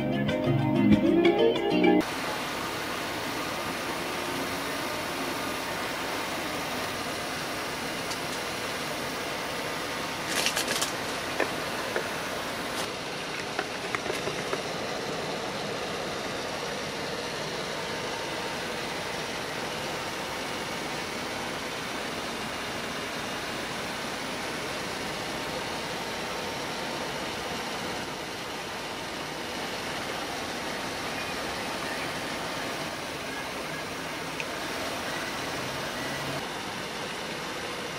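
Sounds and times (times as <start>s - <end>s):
fan heater blowing air: 2.0s - 37.9s.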